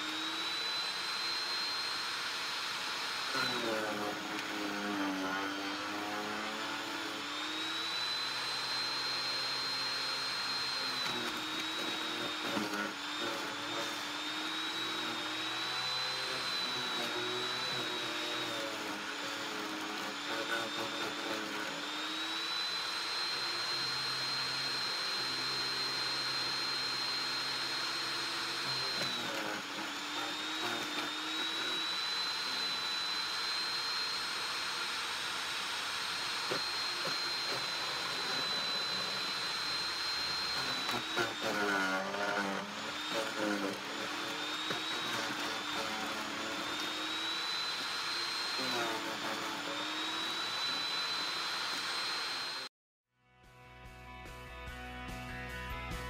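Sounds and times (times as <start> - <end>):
chipper shredder motor whine: 0.0 - 52.7.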